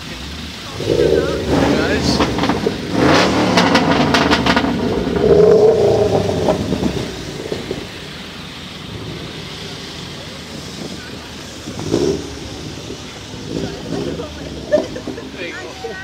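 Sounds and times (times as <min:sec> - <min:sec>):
exhaust pops: 0:00.0 - 0:15.6
car exhaust revving: 0:00.0 - 0:16.0.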